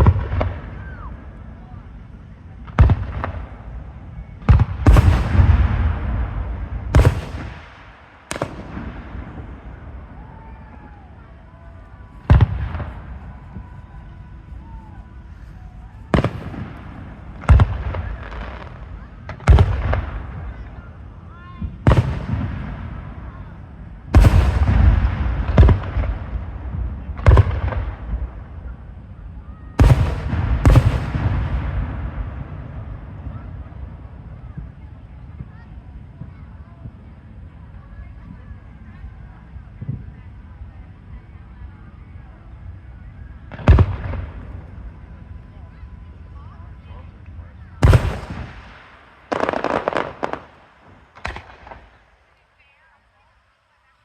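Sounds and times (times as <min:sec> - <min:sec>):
fireworks shells booming: 0:00.0 - 0:29.1, 0:29.8 - 0:37.4, 0:42.7 - 0:52.2
long rumbling tail: 0:00.0 - 0:49.3.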